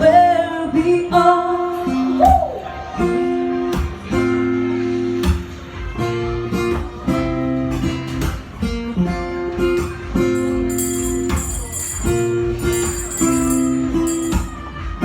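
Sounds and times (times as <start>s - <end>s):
acoustic guitar strumming chords: 2.9s - 15.0s.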